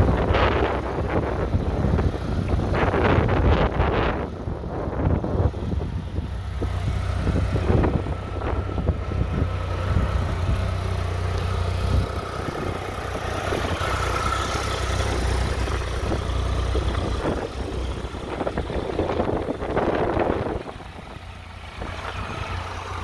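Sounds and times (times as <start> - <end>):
motorcycle engine idling: 0.0 - 23.0
wind buffeting microphone: 0.0 - 23.0.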